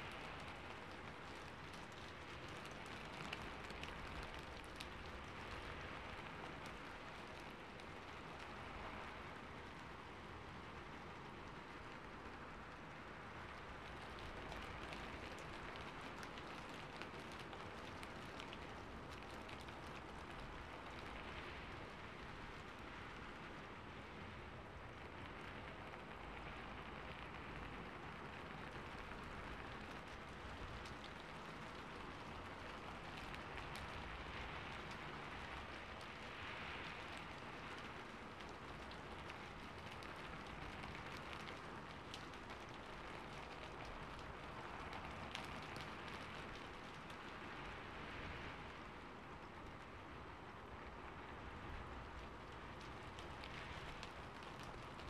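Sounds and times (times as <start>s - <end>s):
raindrop ticks: 0.0s - 55.0s
soft rain falling: 0.0s - 55.0s.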